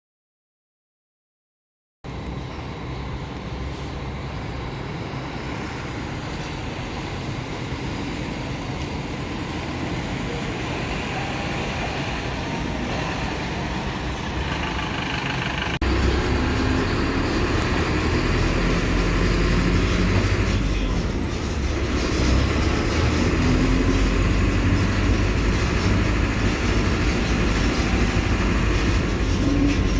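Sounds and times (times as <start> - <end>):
bus diesel engine droning: 2.1 - 29.9.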